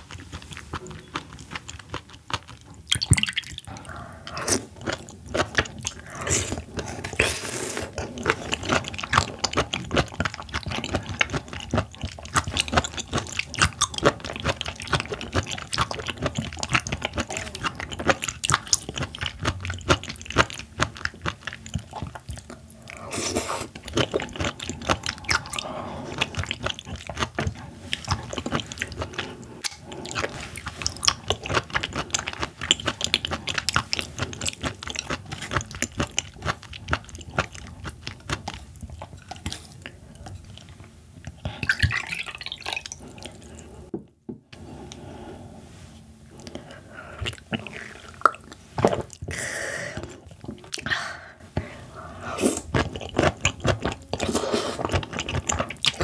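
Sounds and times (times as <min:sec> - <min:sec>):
chewing and crunching seafood: 0:00.0 - 0:43.9, 0:51.7 - 0:56.0.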